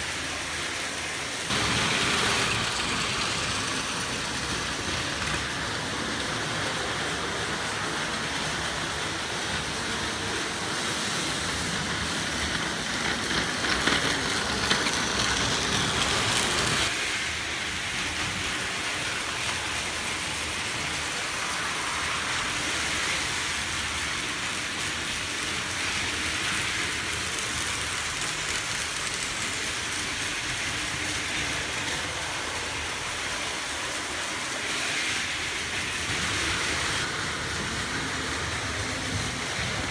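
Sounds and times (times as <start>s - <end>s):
toy train motors whirring: 0.0s - 39.9s
wheels rattling on plastic track: 0.0s - 39.9s.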